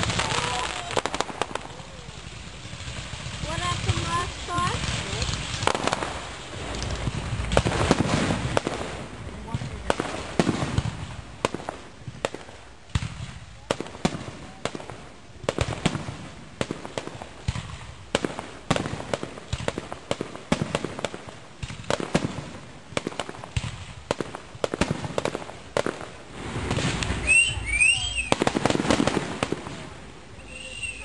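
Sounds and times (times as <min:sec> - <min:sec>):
fireworks bangs and pops: 0:00.0 - 0:31.0
fireworks crackle: 0:00.0 - 0:31.0.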